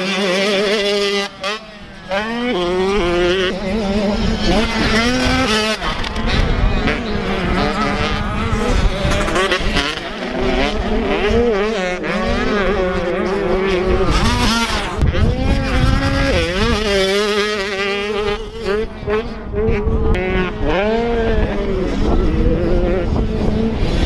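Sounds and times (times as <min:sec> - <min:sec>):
motocross bikes revving: 0:00.0 - 0:24.0
wind rumble on microphone: 0:00.9 - 0:24.0.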